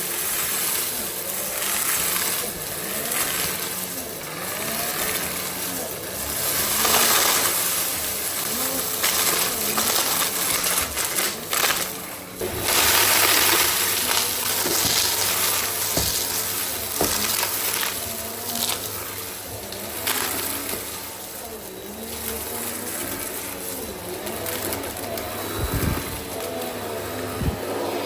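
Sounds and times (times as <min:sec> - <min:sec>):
debris clicking in vacuum: 0:00.0 - 0:28.0
vacuum cleaner running: 0:00.0 - 0:28.0.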